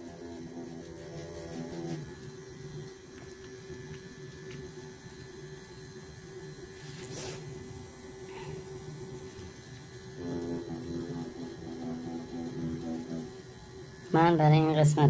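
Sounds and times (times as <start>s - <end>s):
tattoo machine buzzing: 0.0s - 15.0s.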